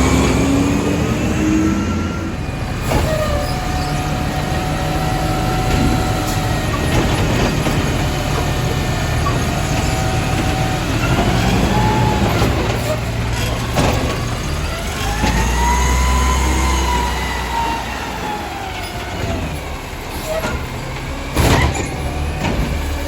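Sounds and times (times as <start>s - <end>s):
garbage truck engine rumble: 0.0s - 23.0s.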